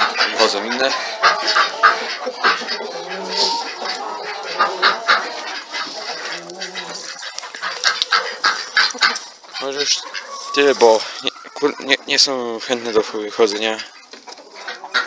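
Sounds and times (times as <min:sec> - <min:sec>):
chickens clucking: 0:00.0 - 0:15.0
long low chicken calls: 0:00.0 - 0:15.0
sharp chicken calls: 0:00.0 - 0:15.0.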